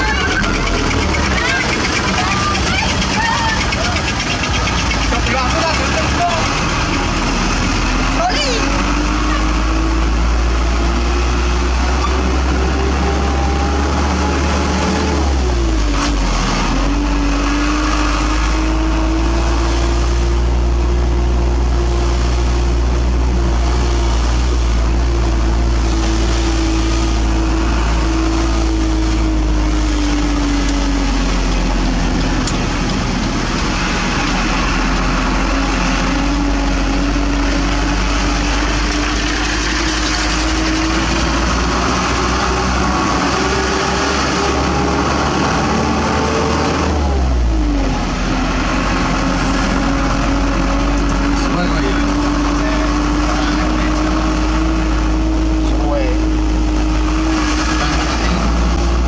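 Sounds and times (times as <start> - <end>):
diesel truck engine rumble: 0.0 - 59.0.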